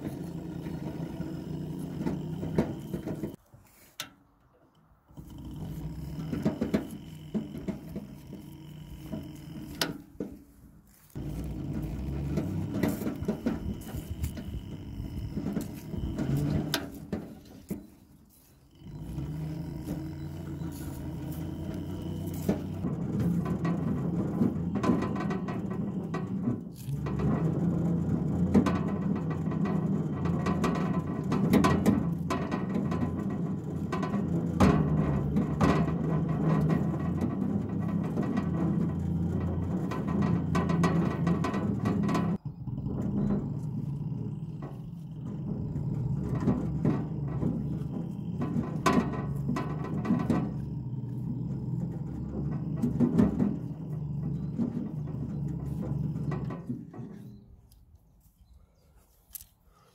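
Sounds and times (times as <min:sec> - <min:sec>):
electric wheelbarrow motor humming: 0:00.0 - 0:03.4, 0:05.1 - 0:57.3.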